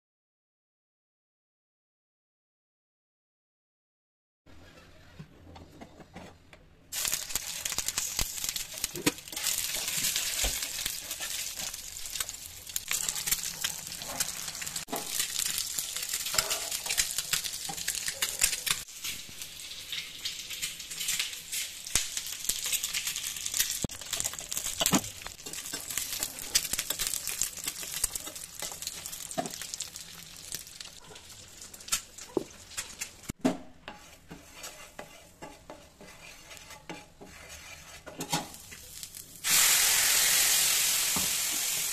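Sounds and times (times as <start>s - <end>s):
eggs sizzling in oil: 6.9s - 41.9s.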